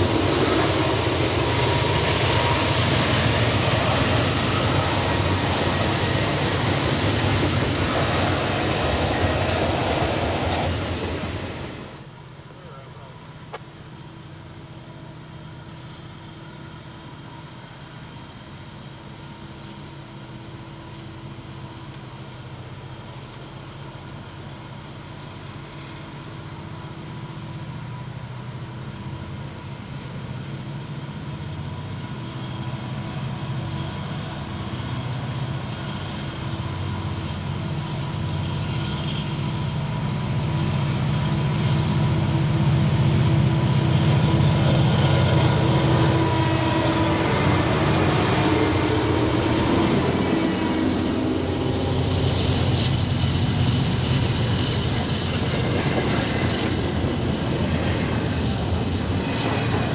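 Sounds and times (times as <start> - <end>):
wheels hissing on rail: 0.0 - 12.8, 15.2 - 59.9
diesel locomotive engine drone: 0.0 - 59.9.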